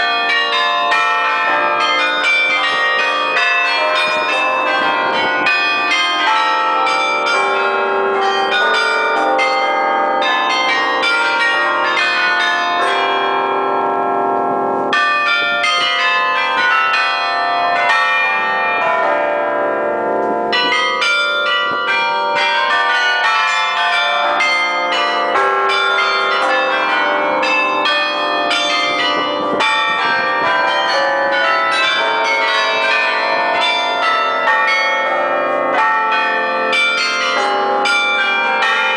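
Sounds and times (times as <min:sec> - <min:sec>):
carillon bells playing a tune: 0:00.0 - 0:38.9.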